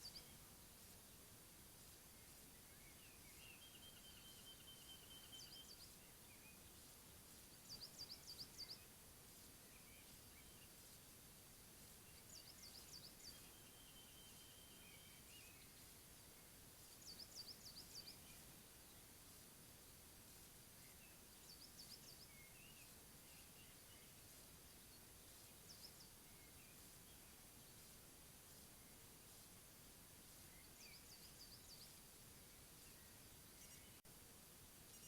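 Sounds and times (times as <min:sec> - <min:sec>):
faint birdsong: 0:00.0 - 0:35.0
steady hiss: 0:00.0 - 0:35.0.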